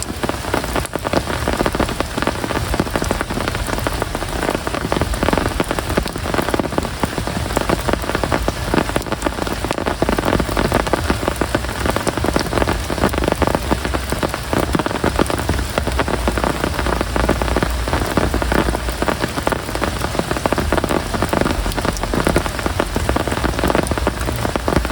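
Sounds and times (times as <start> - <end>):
heavy rain hiss: 0.0 - 24.9
raindrops pattering on surfaces: 0.0 - 24.9.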